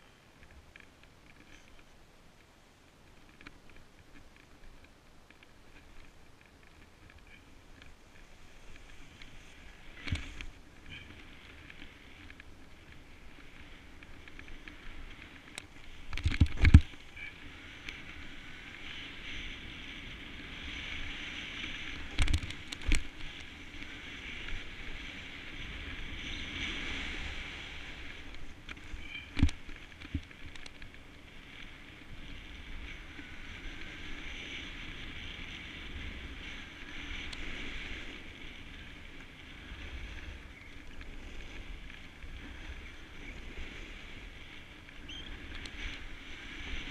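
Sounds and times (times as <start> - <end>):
snowboard scraping over snow: 5.5 - 46.9.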